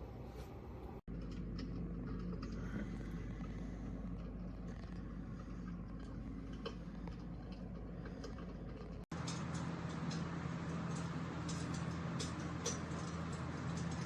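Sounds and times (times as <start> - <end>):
low steady hum: 0.0 - 14.0
simulated fire crackling: 1.4 - 14.0.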